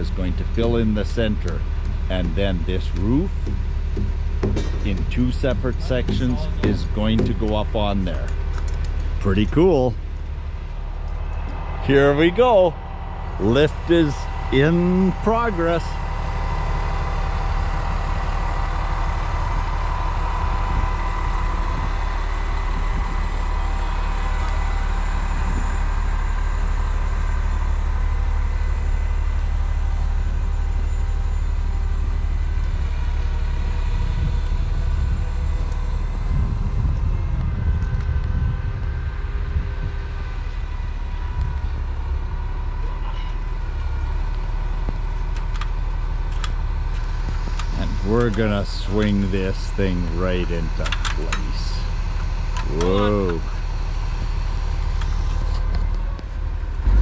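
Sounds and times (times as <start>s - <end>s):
steady engine whine: 0.0s - 57.0s
truck engine rumbling: 0.0s - 57.0s.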